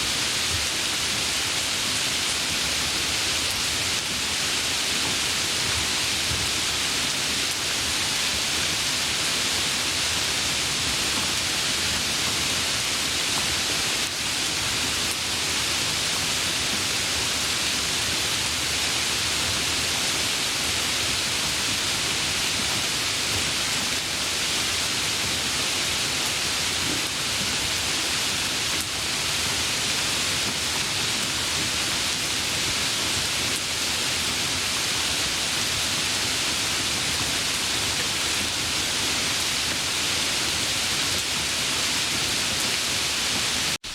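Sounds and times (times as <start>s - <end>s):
steady rain: 0.0s - 43.9s.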